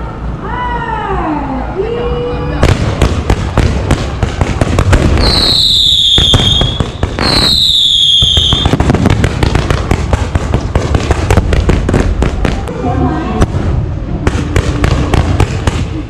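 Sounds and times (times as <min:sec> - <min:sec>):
whistling fireworks: 0:02.5 - 0:12.8, 0:13.4 - 0:16.0
fireworks crackling: 0:02.6 - 0:16.0.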